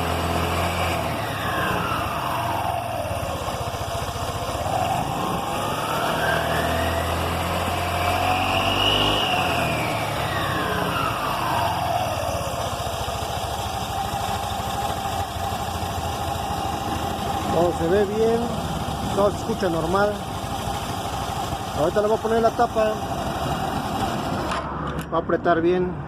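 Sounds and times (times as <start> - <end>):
scooter engine idling and revving: 0.0 - 26.0.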